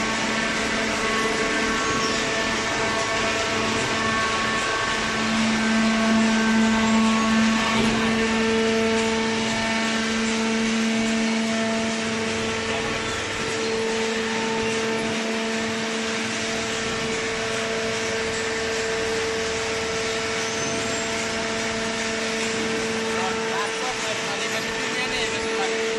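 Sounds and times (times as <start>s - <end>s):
baler motor and pump humming: 0.0s - 25.9s.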